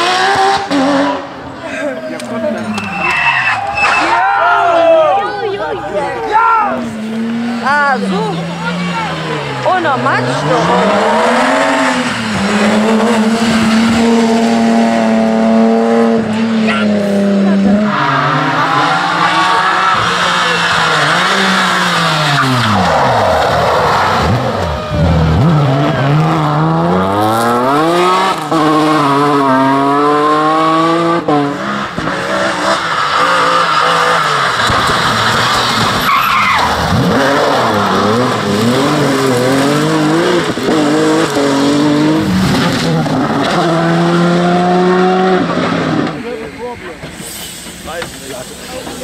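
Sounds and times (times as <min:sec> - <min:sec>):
rally car engines revving: 0:00.0 - 0:49.0.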